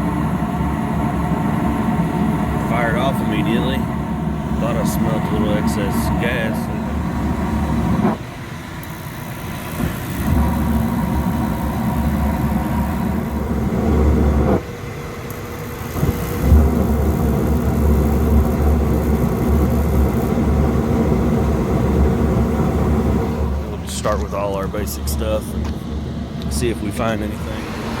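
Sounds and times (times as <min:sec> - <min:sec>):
heating unit mechanical hum: 0:00.0 - 0:28.0.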